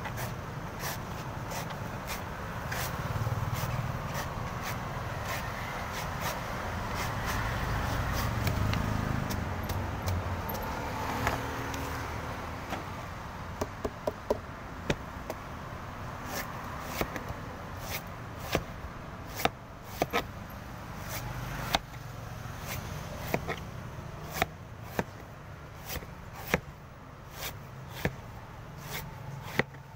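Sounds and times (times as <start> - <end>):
knife chopping coconut husk: 0.0 - 11.8, 16.2 - 20.3, 21.0 - 26.7, 27.3 - 29.8.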